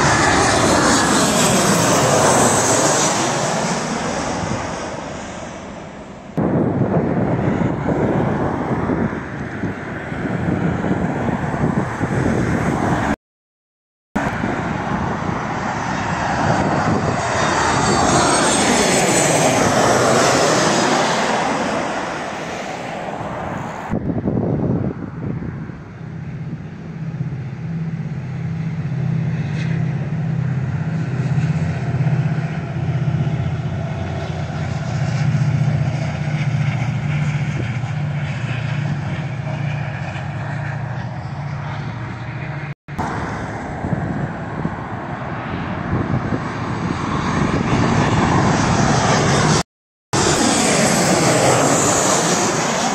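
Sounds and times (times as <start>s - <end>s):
airplane flying low overhead: 0.0s - 13.2s, 14.2s - 52.9s.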